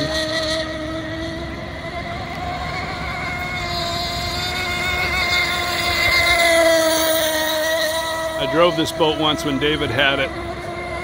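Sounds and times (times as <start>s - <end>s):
model boat engine running: 0.0s - 11.0s.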